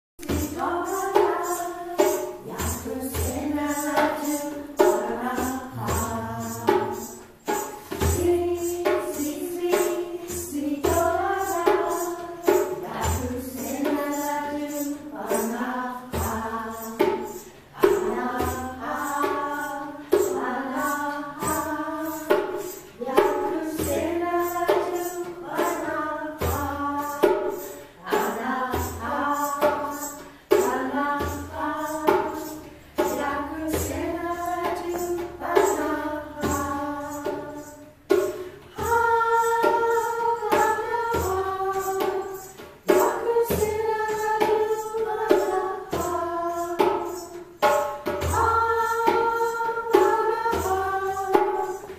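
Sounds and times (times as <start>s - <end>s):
steady percussion beat: 0.2s - 51.9s
women singing together: 0.2s - 51.9s.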